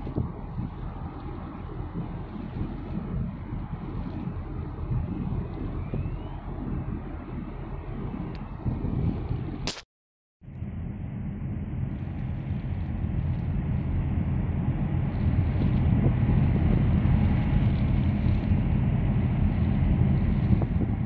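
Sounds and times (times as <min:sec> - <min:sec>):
wind buffeting microphone: 0:00.0 - 0:09.7, 0:10.5 - 0:21.0.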